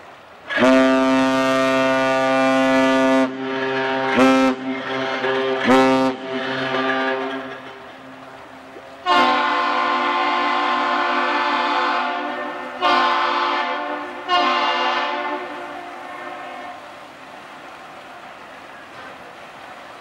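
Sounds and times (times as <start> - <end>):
ship horn blasts: 0.5 - 17.8.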